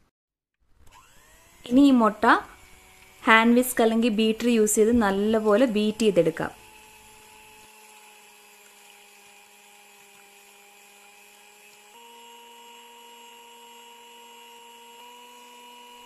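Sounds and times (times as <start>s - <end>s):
electric hand mixer whirring: 0.7s - 16.0s.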